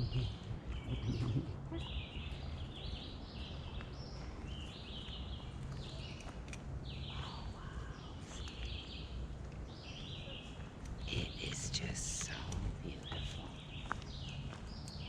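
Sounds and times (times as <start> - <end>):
birds chirping and singing: 0.0 - 15.0
low steady hum: 0.0 - 15.0.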